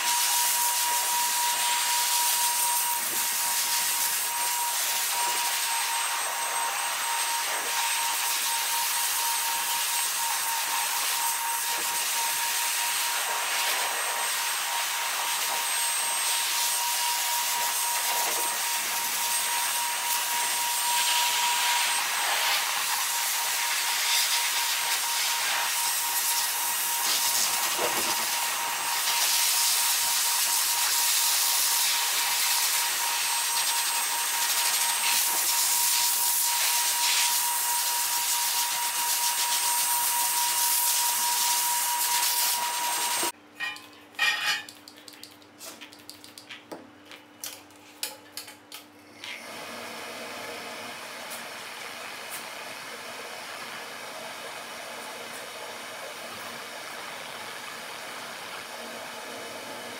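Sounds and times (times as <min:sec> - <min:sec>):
pet dryer blowing air: 0:00.0 - 0:43.4, 0:49.2 - 0:59.9.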